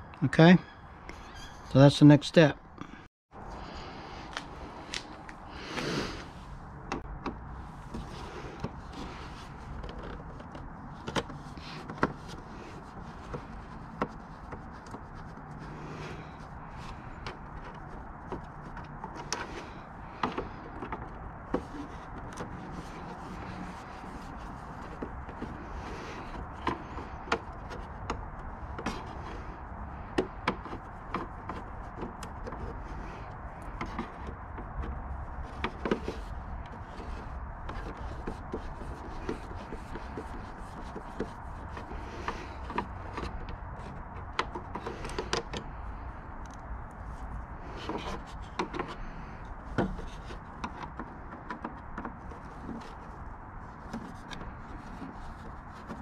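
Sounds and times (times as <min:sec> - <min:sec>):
screwdriver scraping plastic: 0:06.9 - 0:45.8, 0:47.6 - 0:56.0.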